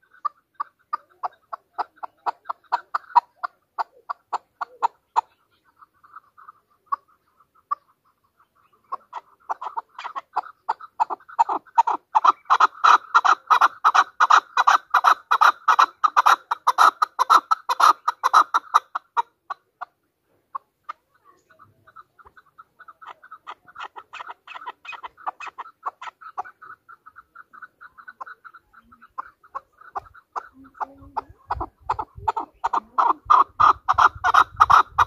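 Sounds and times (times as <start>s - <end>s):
partridge clucking calls: 0.0s - 35.0s.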